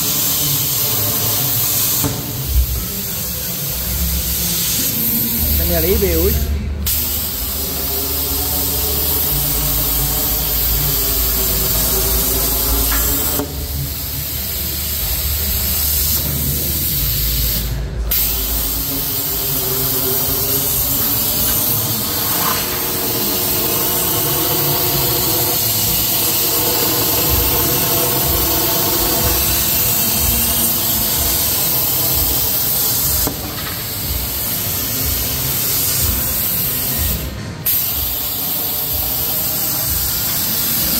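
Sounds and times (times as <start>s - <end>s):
plasma torch hissing: 0.0s - 40.9s.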